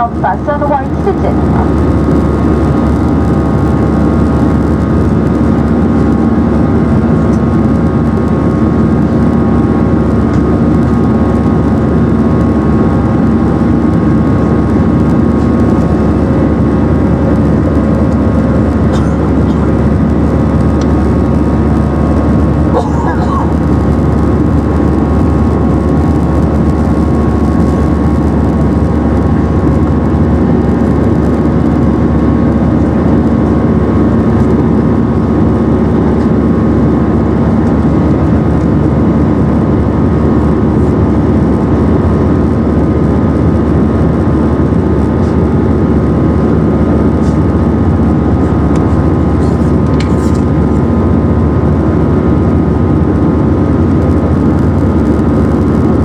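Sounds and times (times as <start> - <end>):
humming tones: 0.0 - 56.0
jet engine and airflow drone: 0.0 - 56.0.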